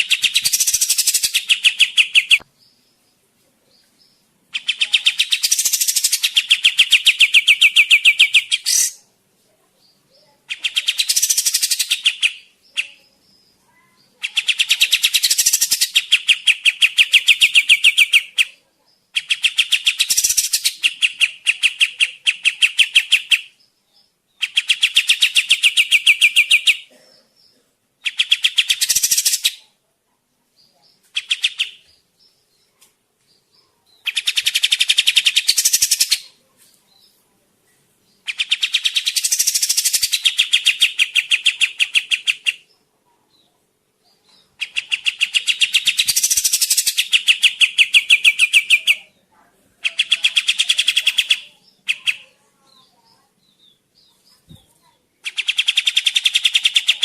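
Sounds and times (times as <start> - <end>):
bird chattering song: 0.0 - 9.1, 9.8 - 29.8, 30.6 - 32.8, 33.4 - 37.2, 38.0 - 57.0.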